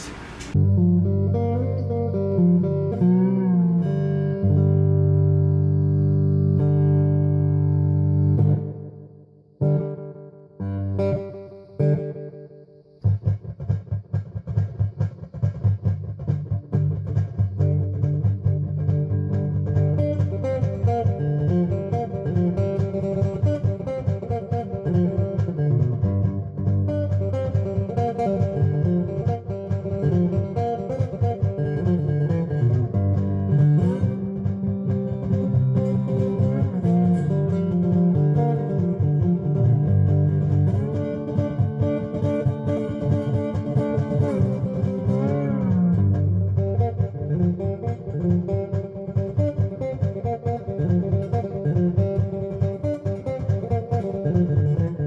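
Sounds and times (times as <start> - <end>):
bass guitar line: 0.0 - 8.9, 13.0 - 55.0
guitar-led instrumental music: 0.0 - 55.0.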